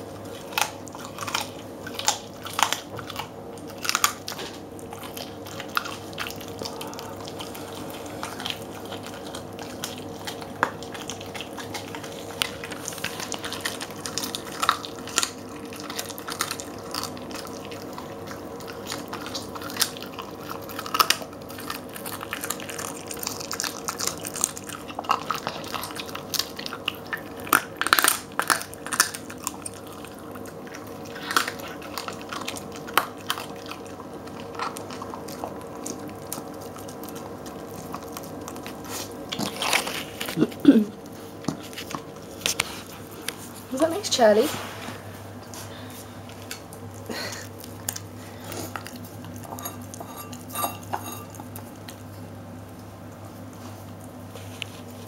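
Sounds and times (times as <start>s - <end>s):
dog chewing wet chomps: 0.0s - 44.4s, 45.0s - 55.0s.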